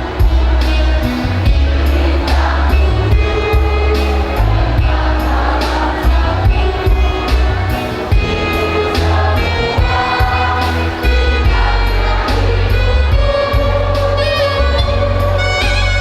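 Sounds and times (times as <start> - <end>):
choir singing: 0.0 - 16.0
heavy low bass: 0.0 - 16.0.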